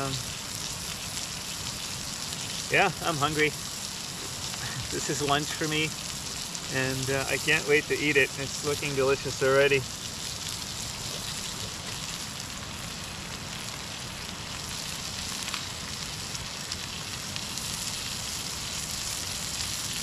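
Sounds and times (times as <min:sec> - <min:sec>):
fire crackling: 0:00.0 - 0:20.0
food sizzling over campfire: 0:00.0 - 0:20.0.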